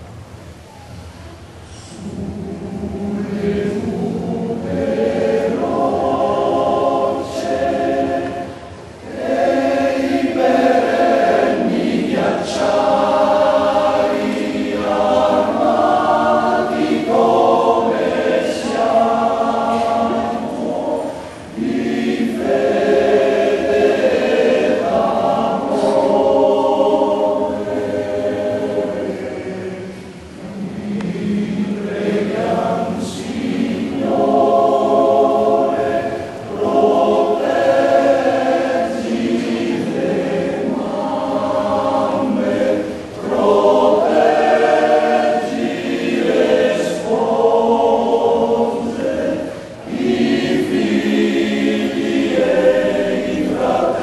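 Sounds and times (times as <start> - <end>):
male choir singing a cappella: 1.7 - 54.0.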